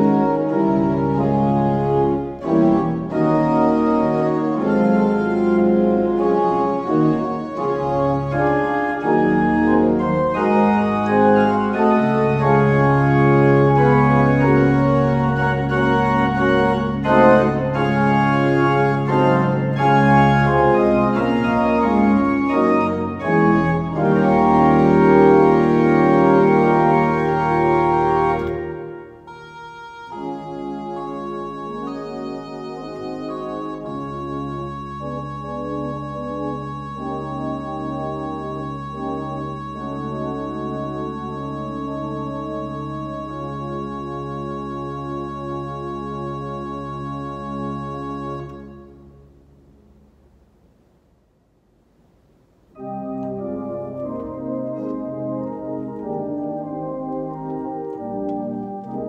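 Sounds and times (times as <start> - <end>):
organ playing chords: 0.0 - 50.5, 52.7 - 59.0.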